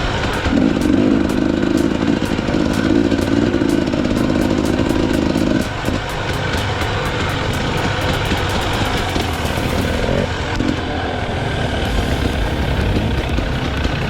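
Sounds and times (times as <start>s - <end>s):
two-stroke motorcycle engine: 0.0s - 14.0s.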